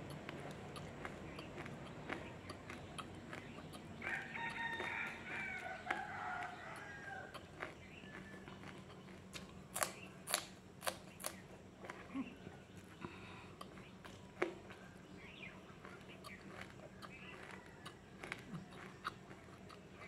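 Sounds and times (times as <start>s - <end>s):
chilli being bitten crunching: 0.0s - 20.0s.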